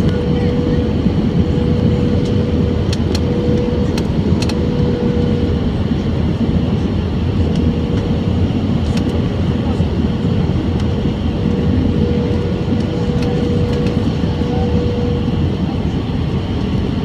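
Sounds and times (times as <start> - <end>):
jet engines and airflow rushing: 0.0 - 17.0
mid-pitched hum: 0.0 - 17.0.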